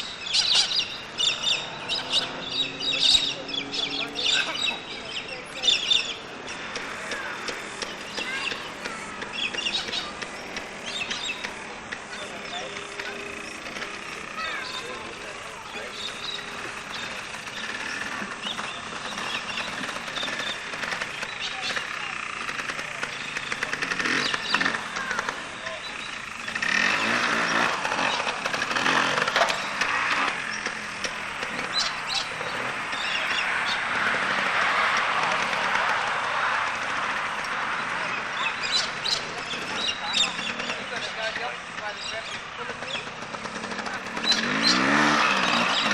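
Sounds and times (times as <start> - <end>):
small birds chirping: 0.0 - 45.9
small motorcycle engine running: 0.0 - 45.9.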